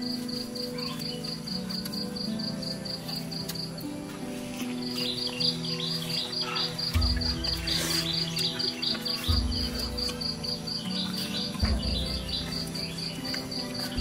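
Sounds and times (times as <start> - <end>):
insects chirping: 0.0 - 14.0
soft background music: 0.0 - 14.0.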